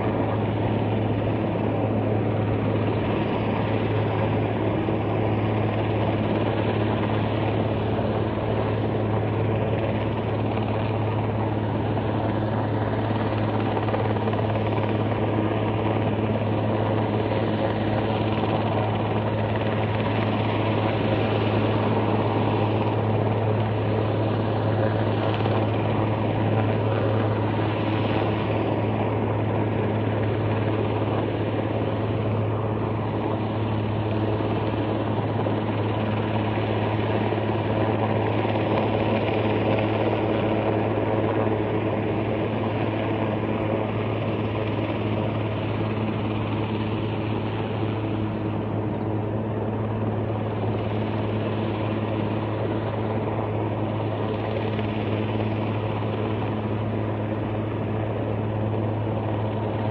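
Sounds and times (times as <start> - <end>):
helicopter hovering: 0.0 - 59.9.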